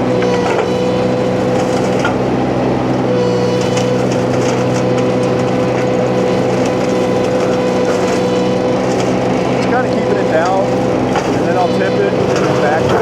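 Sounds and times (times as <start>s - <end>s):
flail mulcher high whine: 0.0s - 13.0s
skid steer engine running: 0.0s - 13.0s.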